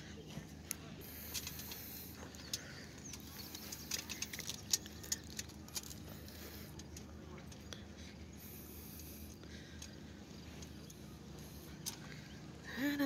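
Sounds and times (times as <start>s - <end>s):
camping gear clicking and rattling: 0.0s - 12.5s
faint low hum: 0.0s - 13.0s.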